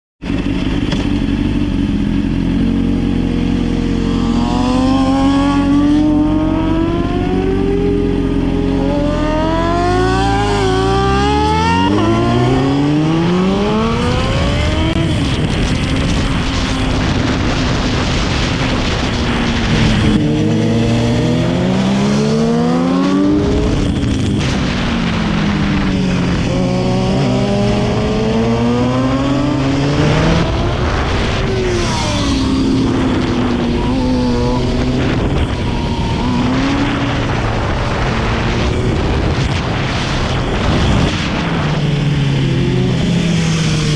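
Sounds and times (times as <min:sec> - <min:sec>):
motorcycle engine revving: 0:00.2 - 0:43.9.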